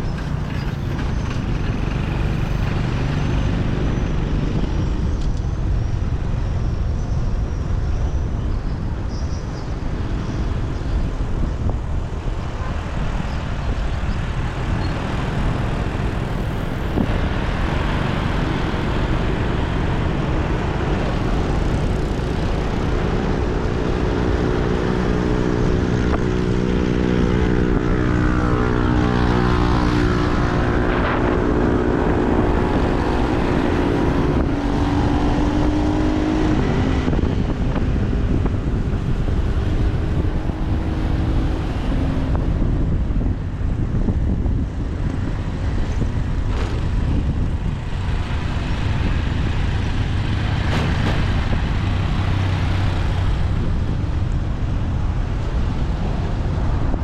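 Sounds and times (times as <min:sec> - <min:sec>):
road and wind noise: 0:00.0 - 0:57.0
engine hum sweeping downward: 0:09.7 - 0:57.0.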